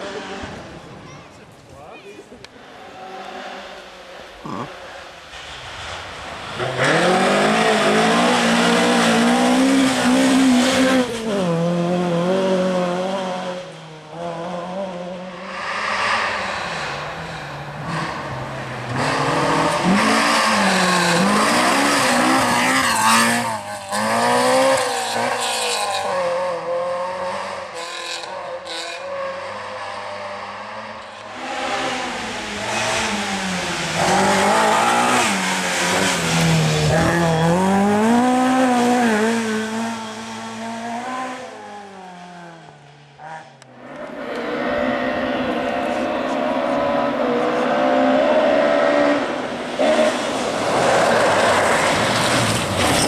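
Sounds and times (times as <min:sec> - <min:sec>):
rally car engines revving: 0:00.0 - 0:01.6, 0:02.3 - 0:53.0.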